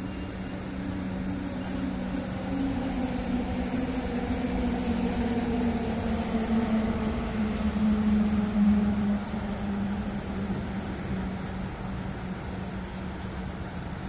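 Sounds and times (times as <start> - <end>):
maglev train humming past: 0.0 - 14.0.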